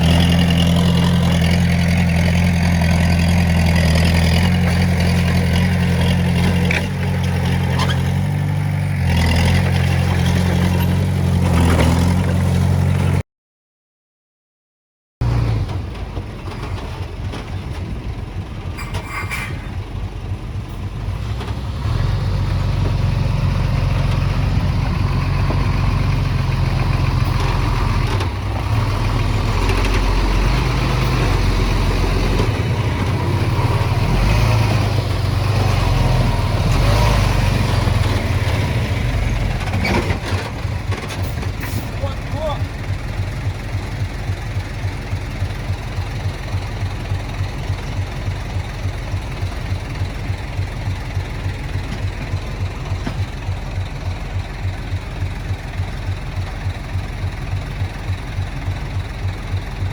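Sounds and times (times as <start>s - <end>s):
heavy diesel engine running: 0.0s - 13.2s, 15.2s - 59.9s.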